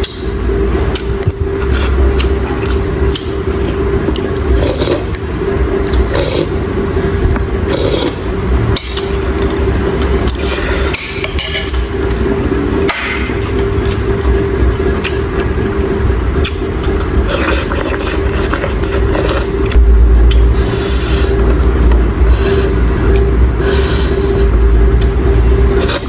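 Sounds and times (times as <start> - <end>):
steady hum and low rumble: 0.0 - 26.0.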